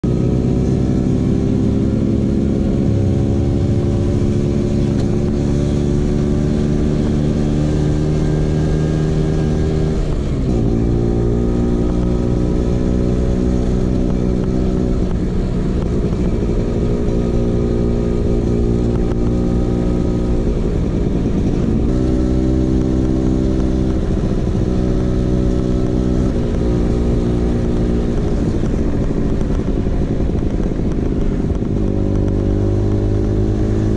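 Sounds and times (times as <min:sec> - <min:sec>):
scooter engine running: 0:00.2 - 0:33.9.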